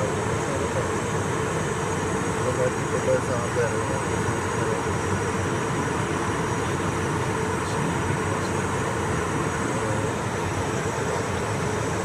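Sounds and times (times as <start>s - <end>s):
aircraft cabin airflow and engine: 0.0s - 12.0s
constant mid-pitched hum: 0.0s - 12.0s.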